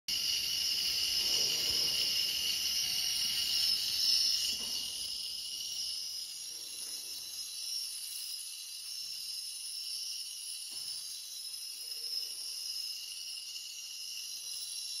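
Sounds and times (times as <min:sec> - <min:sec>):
ultrasonic probe high-pitched hiss: 0:00.1 - 0:15.0.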